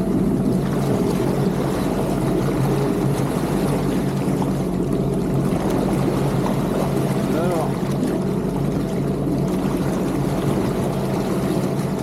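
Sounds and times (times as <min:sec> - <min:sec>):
constant rushing noise: 0:00.0 - 0:12.0
jet ski engine running: 0:00.0 - 0:12.0.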